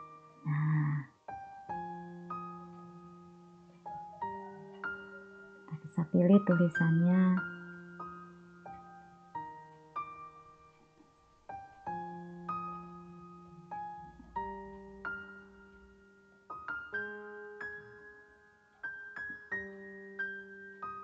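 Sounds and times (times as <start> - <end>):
quiet piano music: 0.0 - 21.0.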